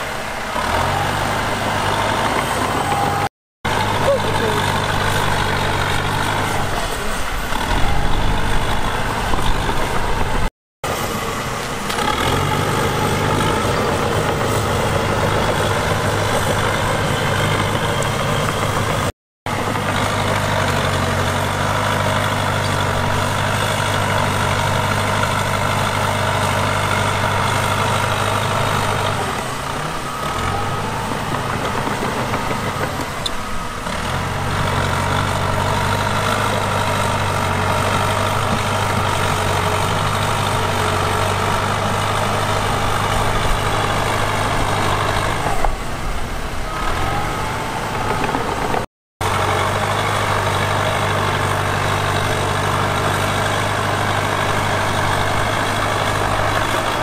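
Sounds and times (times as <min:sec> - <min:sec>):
heavy diesel engine clattering: 0:00.0 - 0:57.0.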